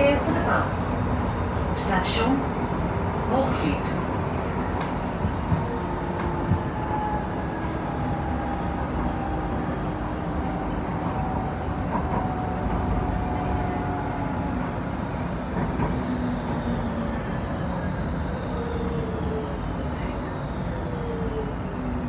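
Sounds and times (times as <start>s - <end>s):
metro train wheels rumbling: 0.0s - 22.0s.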